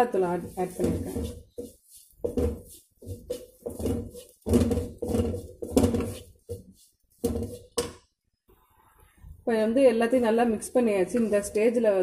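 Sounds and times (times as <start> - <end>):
wooden spatula scraping a pan: 0.0 - 7.9, 10.1 - 11.8.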